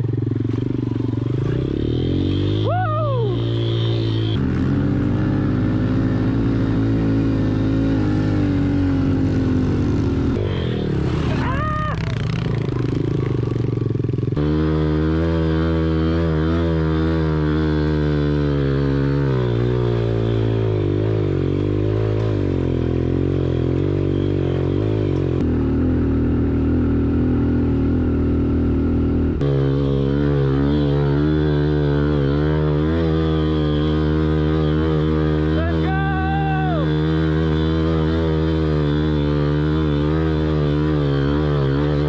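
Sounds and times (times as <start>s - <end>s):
pit bike engine revving: 0.0s - 42.0s.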